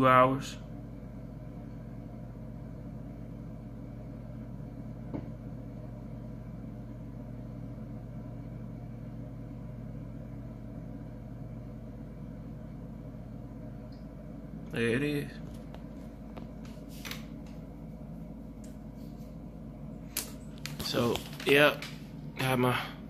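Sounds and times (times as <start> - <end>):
incubator fan humming: 0.0 - 23.0.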